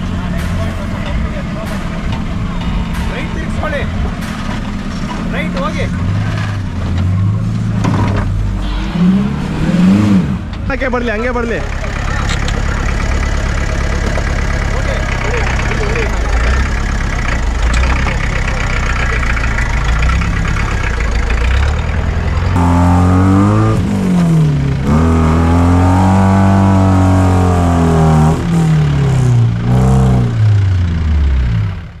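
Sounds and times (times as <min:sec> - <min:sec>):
jeep engine revving: 0:00.0 - 0:32.0.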